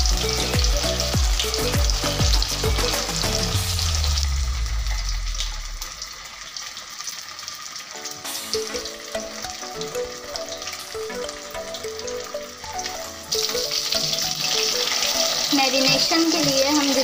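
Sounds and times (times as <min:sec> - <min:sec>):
background music simple melody: 0:00.0 - 0:05.7, 0:07.9 - 0:17.0
fish deep-frying in hot oil: 0:00.0 - 0:17.0.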